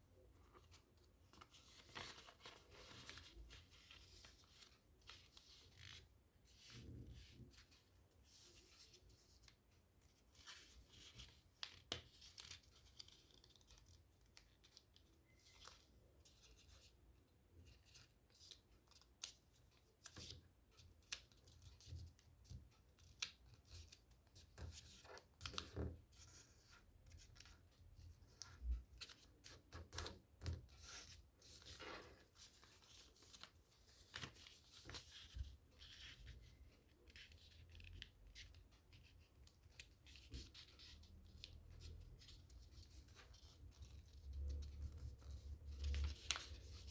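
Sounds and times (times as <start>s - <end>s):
paper being folded and creased: 0.2s - 16.9s, 20.0s - 27.6s, 28.2s - 46.9s.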